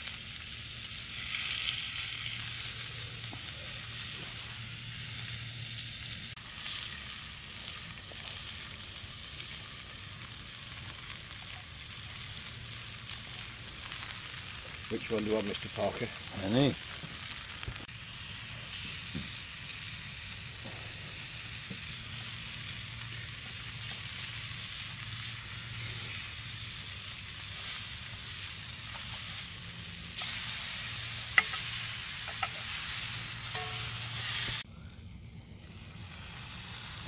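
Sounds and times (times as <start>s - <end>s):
steaks sizzling in frying pan: 0.0s - 34.6s.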